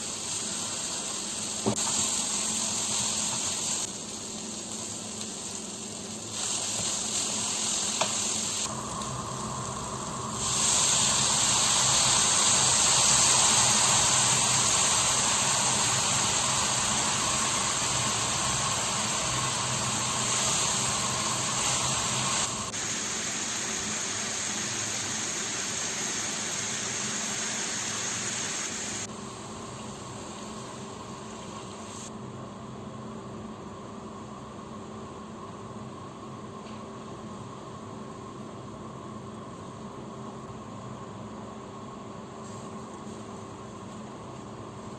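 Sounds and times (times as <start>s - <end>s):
cooking hiss: 0.0s - 32.2s, 40.2s - 44.9s.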